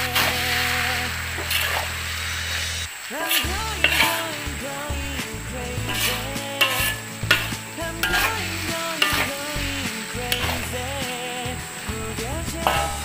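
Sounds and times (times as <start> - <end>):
background music: 0.0 - 13.0
noodles sizzling: 0.0 - 13.0
metal spatula scraping wok: 0.1 - 13.0.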